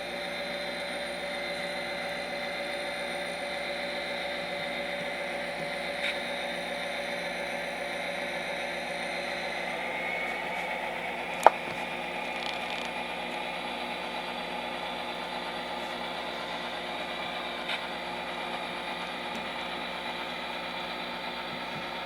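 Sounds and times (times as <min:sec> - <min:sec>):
simulated diesel engine from speaker: 0:00.0 - 0:22.0.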